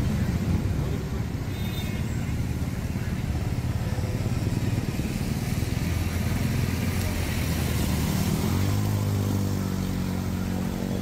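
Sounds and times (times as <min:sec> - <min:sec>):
water swishing against wheels: 0:00.0 - 0:11.0.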